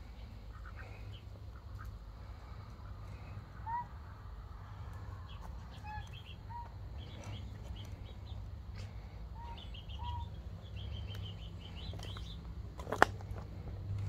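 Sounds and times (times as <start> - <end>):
birds chirping: 0.0 - 14.0
steady low rumble: 0.0 - 14.0.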